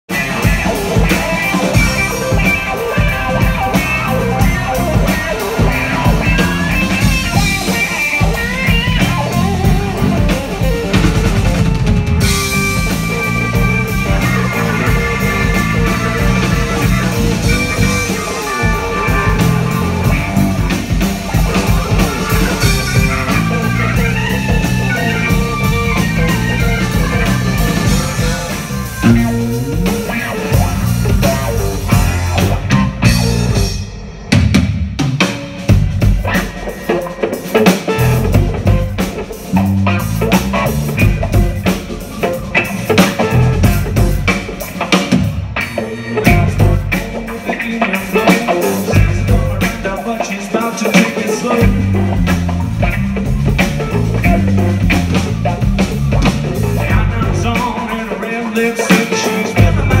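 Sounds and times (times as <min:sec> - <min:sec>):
drum kit: 0:00.0 - 1:00.0
electric guitars: 0:00.1 - 1:00.0.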